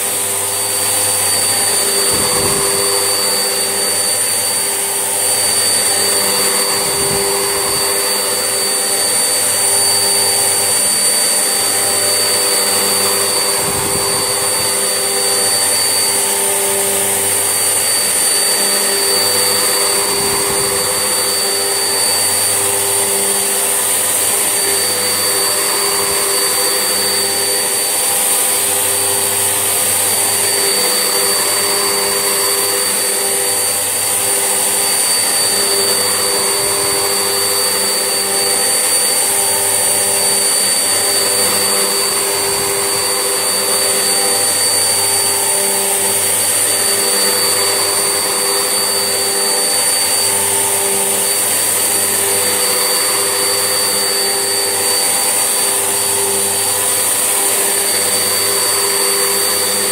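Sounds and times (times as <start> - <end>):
vacuum cleaner whirring: 0.0 - 59.9.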